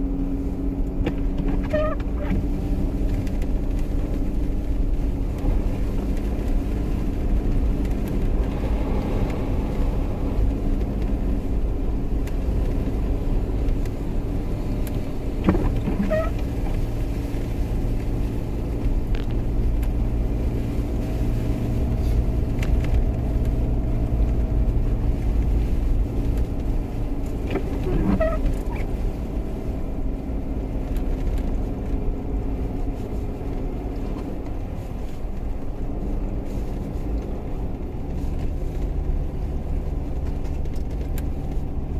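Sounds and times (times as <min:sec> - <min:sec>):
car engine droning: 0:00.0 - 0:41.9.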